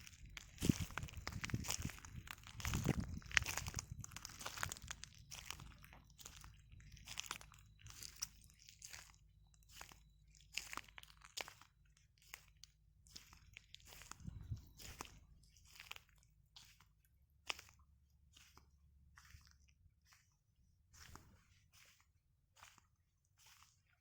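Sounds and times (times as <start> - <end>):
footsteps crunching on shells: 0.0 - 24.0.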